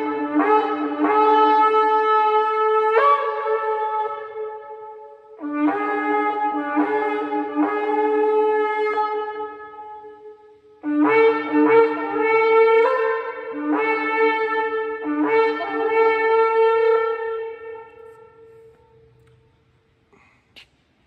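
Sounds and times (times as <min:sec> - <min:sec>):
shofar blasts: 0:00.0 - 0:19.2.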